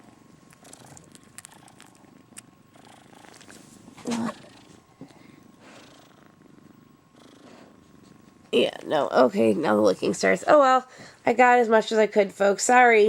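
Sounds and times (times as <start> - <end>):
kitten purring: 0.0 - 10.6.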